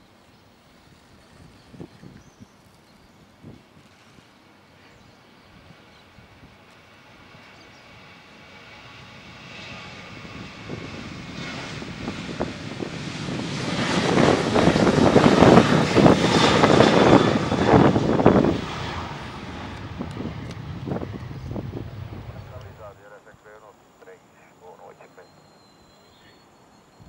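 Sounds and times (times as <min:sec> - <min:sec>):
jet engines roaring at takeoff: 0:03.4 - 0:27.0.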